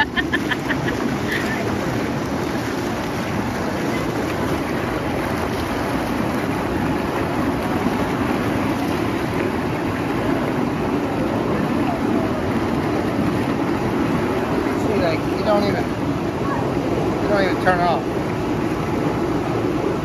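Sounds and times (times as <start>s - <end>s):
waterfall jet splashing into pool: 0.0s - 20.0s.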